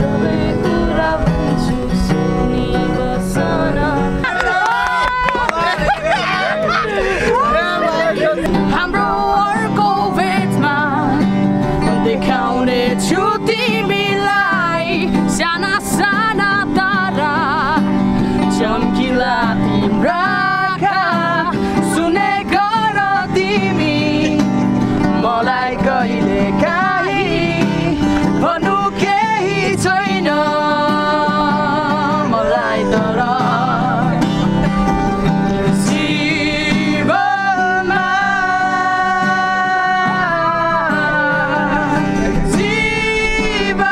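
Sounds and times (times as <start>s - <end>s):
acoustic guitar: 0.0s - 43.9s
people singing together: 0.0s - 43.9s.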